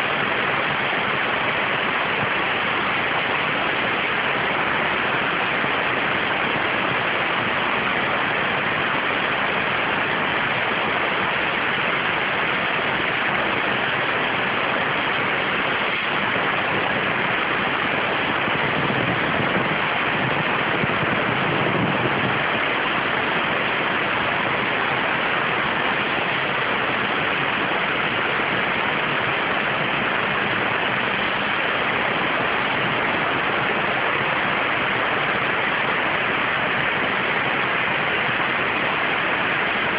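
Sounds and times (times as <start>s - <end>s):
high-pressure water jet hiss: 0.0s - 39.9s.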